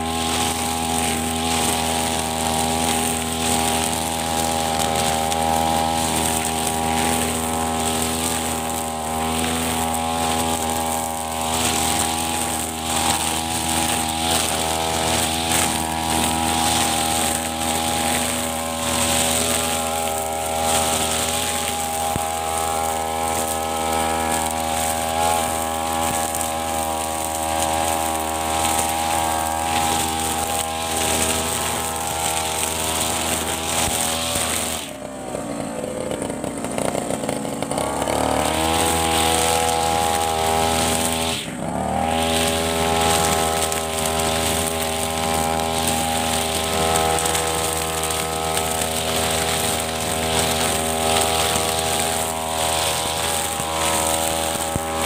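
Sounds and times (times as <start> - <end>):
brush cutter engine running: 0.0 - 55.0
cutting head mowing grass: 0.0 - 55.0.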